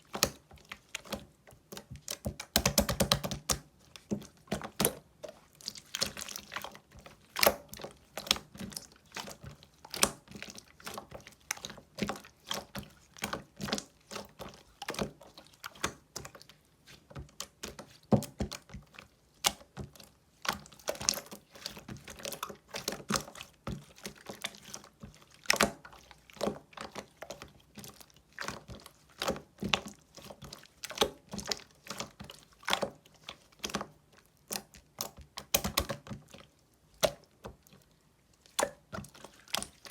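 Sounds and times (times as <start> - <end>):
slime squishing with sticky clicks: 0.0 - 39.9.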